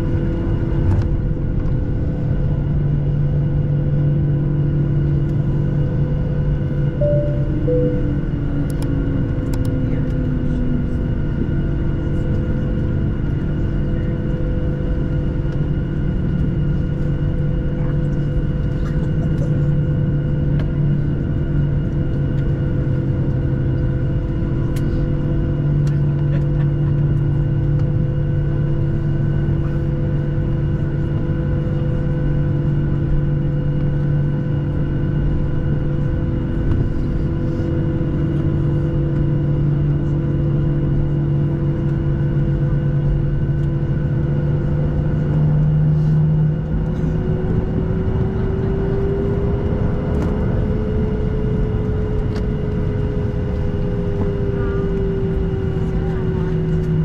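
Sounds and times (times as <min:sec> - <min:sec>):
aircraft cabin engine drone: 0:00.0 - 0:57.0.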